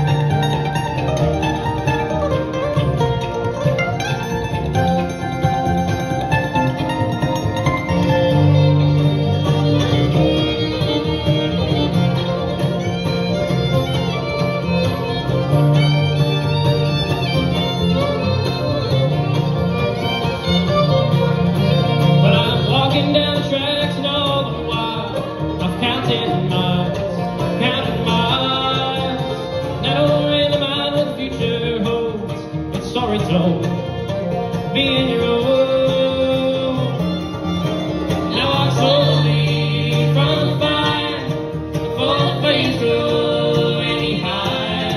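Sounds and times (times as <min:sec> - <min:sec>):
acoustic guitar: 0:00.0 - 0:44.9
banjo: 0:00.0 - 0:44.9
fiddle: 0:00.0 - 0:44.9
mandolin: 0:00.0 - 0:44.9
upright bass: 0:00.0 - 0:44.9.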